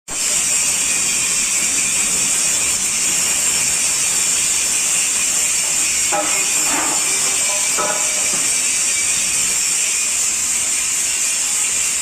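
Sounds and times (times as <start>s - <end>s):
welding arc sizzling hiss: 0.1s - 12.0s.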